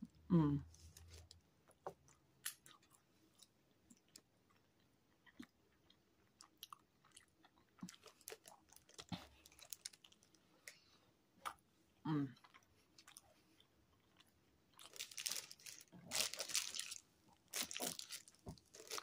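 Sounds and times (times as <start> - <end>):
chewing food: 0.9 - 10.8, 12.3 - 19.0.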